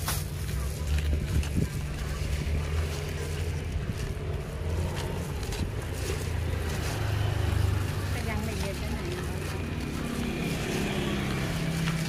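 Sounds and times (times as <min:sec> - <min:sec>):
banana chips crackling: 0:00.0 - 0:12.0
plastic bag rustling: 0:00.0 - 0:12.0
steady low rumble: 0:00.0 - 0:12.0.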